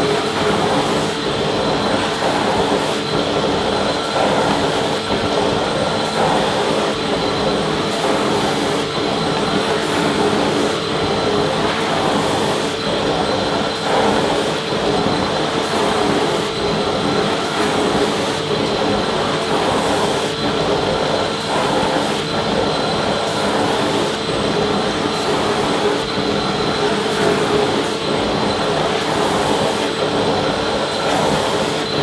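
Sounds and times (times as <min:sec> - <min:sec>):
vacuum cleaner motor running: 0:00.0 - 0:32.0.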